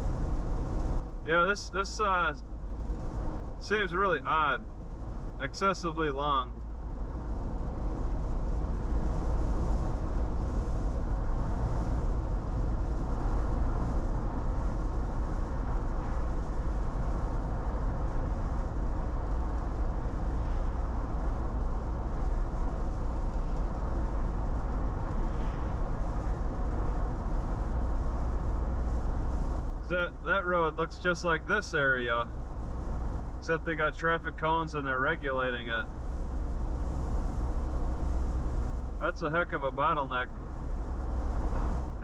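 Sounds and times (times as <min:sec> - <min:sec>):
car engine drone: 0:00.0 - 0:42.0
road and tyre noise: 0:00.0 - 0:42.0.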